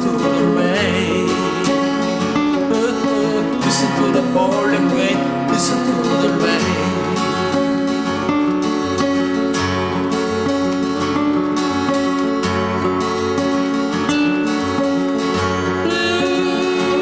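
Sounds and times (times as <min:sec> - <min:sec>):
acoustic guitar strumming: 0:00.0 - 0:17.0
picked guitar melody: 0:00.0 - 0:17.0.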